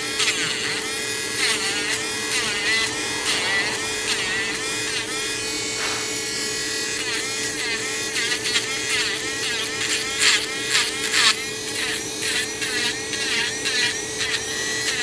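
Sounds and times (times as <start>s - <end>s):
small electric tool whirring: 0.0s - 15.0s.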